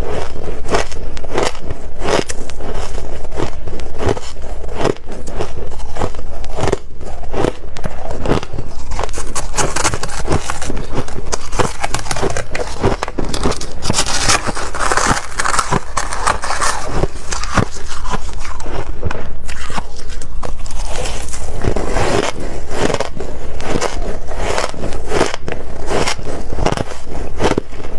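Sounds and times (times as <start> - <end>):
chewing crunchy frost: 0.0 - 27.9.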